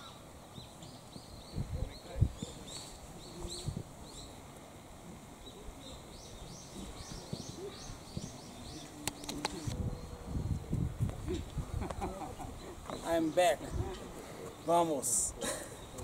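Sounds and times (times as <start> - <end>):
small birds chirping: 0.0 - 4.5, 5.3 - 16.0.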